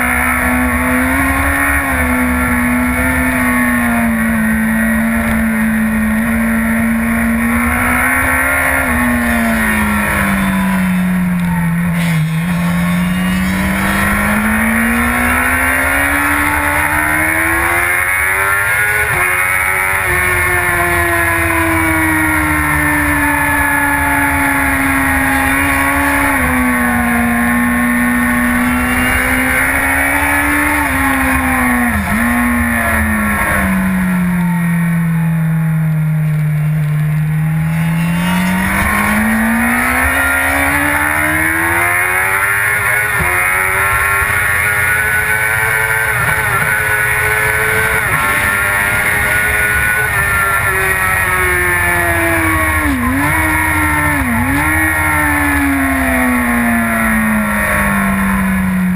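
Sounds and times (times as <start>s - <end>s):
motorcycle engine under load: 0.0s - 58.9s.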